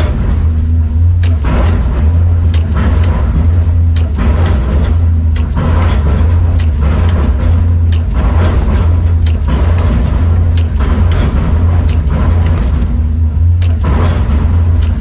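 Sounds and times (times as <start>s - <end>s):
heavy machinery engine drone: 0.0s - 15.0s
sharp knocks: 1.2s - 13.0s, 13.6s - 15.0s.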